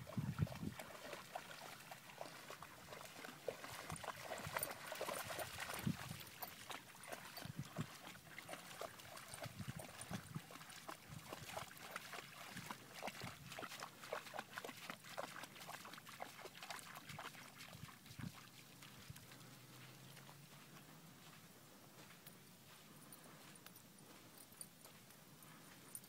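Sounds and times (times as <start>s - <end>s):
dog paws splashing in water: 0.0s - 26.0s.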